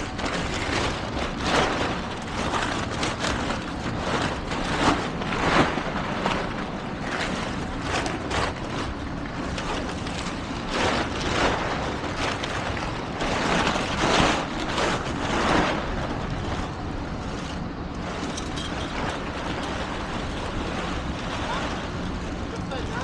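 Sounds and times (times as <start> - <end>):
vehicle rumble: 0.0 - 23.0.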